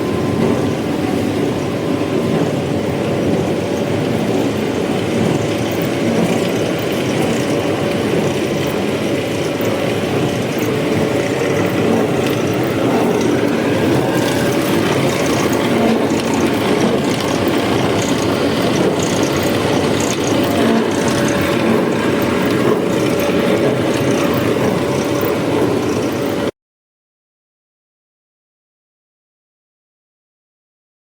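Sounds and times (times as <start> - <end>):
machine rattling and humming: 0.0 - 26.5.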